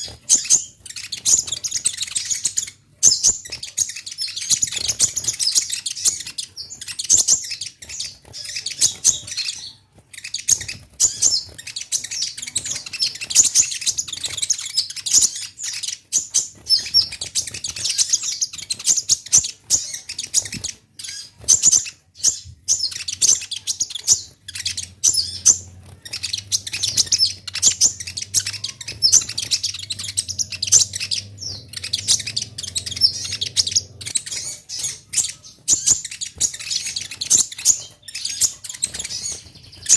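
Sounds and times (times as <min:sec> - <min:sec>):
bird chirping and twittering: 0:00.0 - 0:39.9.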